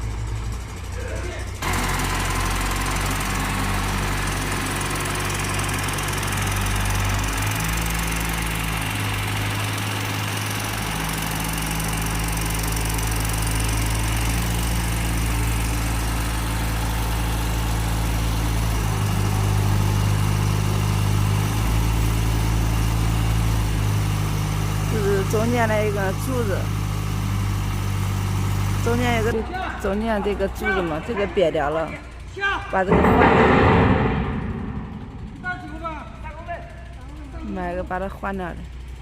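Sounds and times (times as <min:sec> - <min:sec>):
engine running with low hum: 0:00.0 - 0:39.0.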